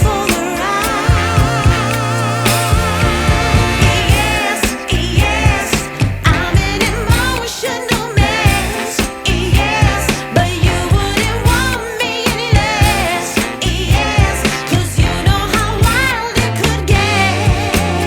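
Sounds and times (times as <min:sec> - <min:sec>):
song with beat and singing: 0:00.0 - 0:18.0.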